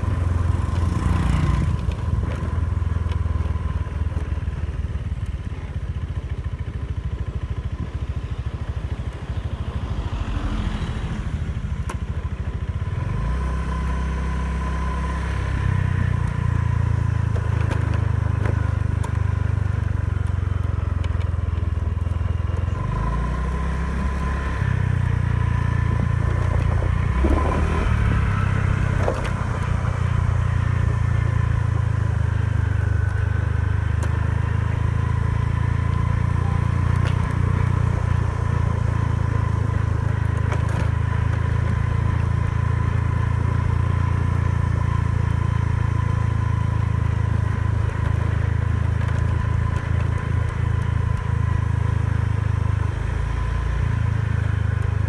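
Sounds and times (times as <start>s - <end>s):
scooter engine whine: 0.0s - 55.0s.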